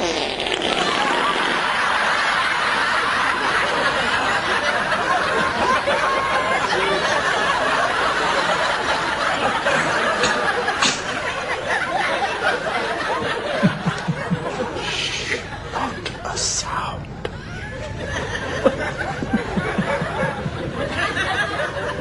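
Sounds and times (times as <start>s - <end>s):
people snickering and chuckling: 0.0s - 16.2s, 17.4s - 22.0s.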